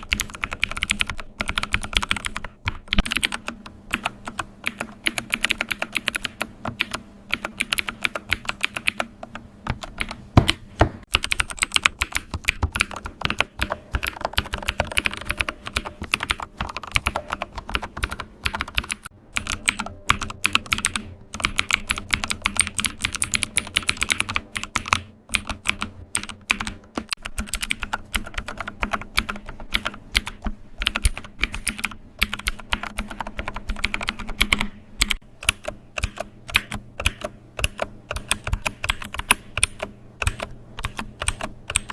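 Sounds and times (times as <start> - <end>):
computer keyboard typing: 0.0 - 41.9.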